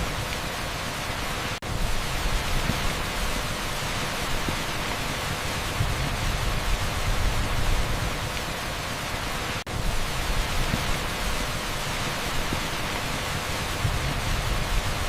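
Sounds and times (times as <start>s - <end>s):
torrential rain on asphalt: 0.0s - 15.0s.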